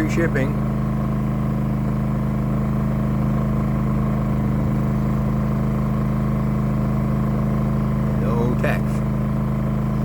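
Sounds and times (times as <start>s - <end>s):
generator engine drone: 0.0s - 10.0s.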